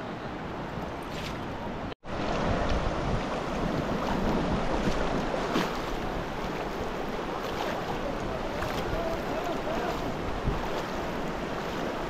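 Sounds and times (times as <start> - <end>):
water rushing: 0.0 - 12.0
wind buffeting microphone: 0.5 - 12.0
faint splashes: 1.0 - 12.0.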